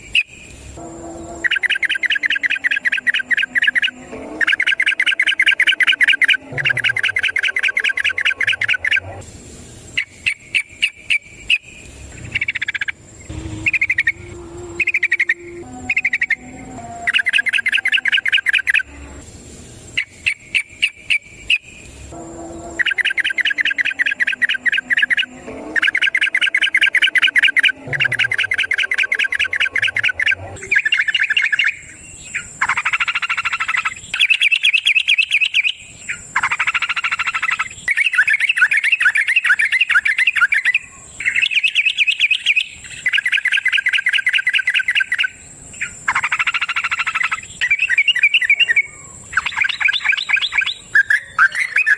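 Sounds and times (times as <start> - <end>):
bird singing rapid trill: 0.0 - 9.2, 10.0 - 19.2, 19.9 - 51.9.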